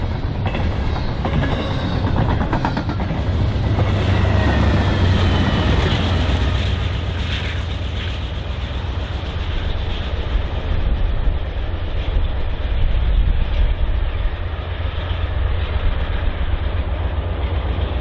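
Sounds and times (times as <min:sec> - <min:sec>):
diesel locomotive engines droning: 0:00.0 - 0:18.0
train wheels clattering on rails: 0:00.0 - 0:18.0.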